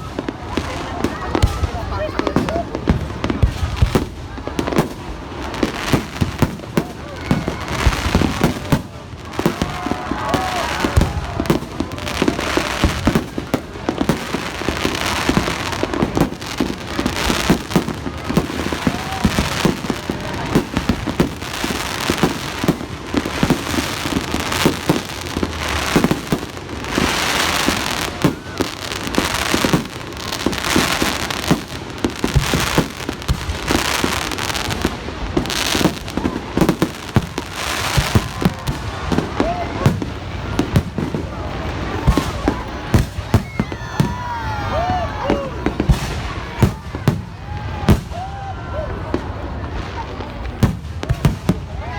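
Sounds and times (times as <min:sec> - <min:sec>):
fireworks bursts and bangs: 0:00.0 - 0:51.9
fireworks hissing crackle: 0:00.0 - 0:51.9.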